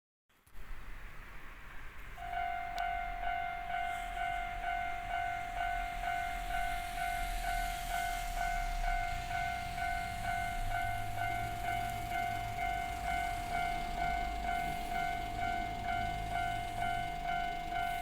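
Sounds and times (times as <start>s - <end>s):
level crossing electronic bell: 2.2s - 18.0s.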